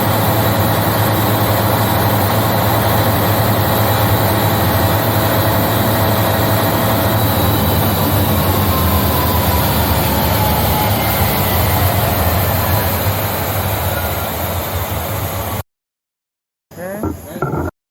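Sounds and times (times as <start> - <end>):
diesel generator droning: 0.0 - 15.6.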